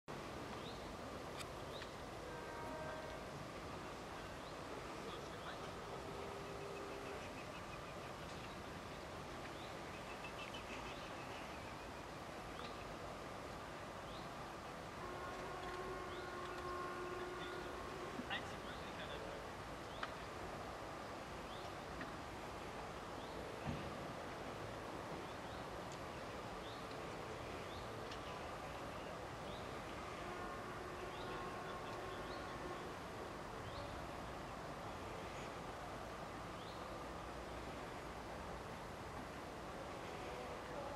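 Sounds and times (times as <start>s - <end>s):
outdoor background noise: 0.0s - 40.9s.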